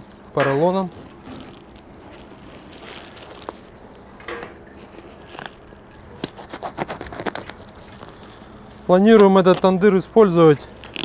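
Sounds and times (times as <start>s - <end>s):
plastic film crinkling: 0.6s - 11.0s.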